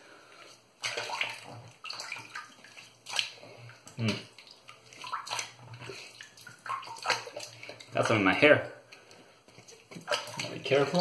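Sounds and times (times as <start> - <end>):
water splashing at sink: 0.3 - 11.0.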